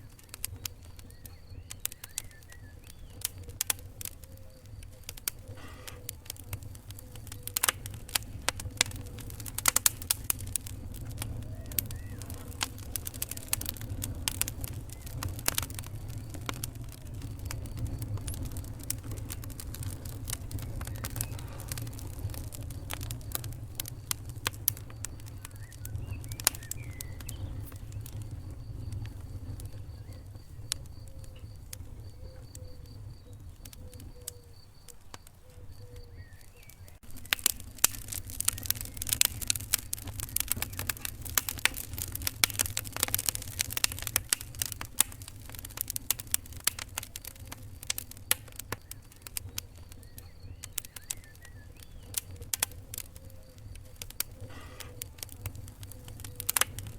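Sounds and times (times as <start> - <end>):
low rumble of flames: 0.0 - 56.9
wood fire crackling and popping: 0.0 - 56.9.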